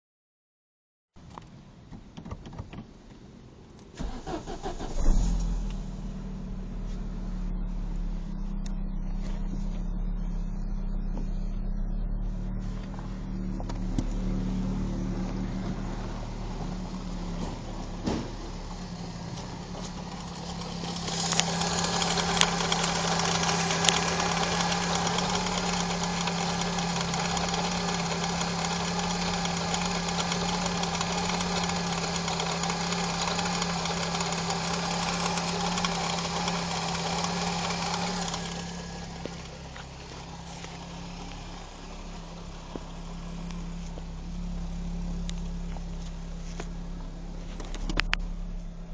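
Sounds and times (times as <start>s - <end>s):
car engine idling: 3.0s - 48.9s.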